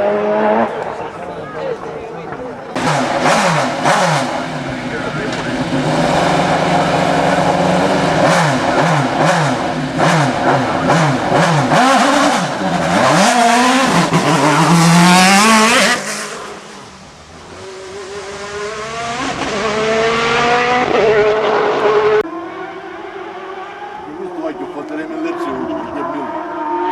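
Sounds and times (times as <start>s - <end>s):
race car engine at high revs: 0.0s - 26.9s
second engine note rising: 0.0s - 26.9s.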